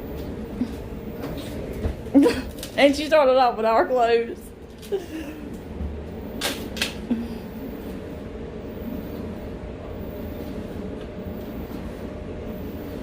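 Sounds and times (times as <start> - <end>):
washing machine rumbling: 0.0 - 13.0.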